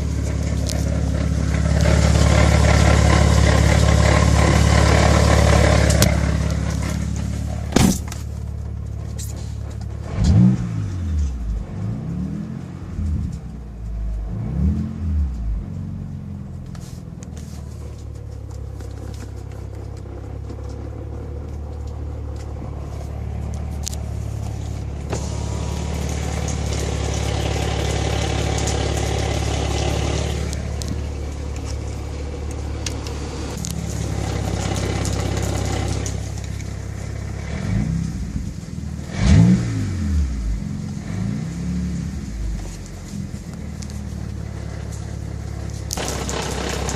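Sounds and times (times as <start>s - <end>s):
car engine revving: 0.0s - 16.7s, 17.5s - 46.9s.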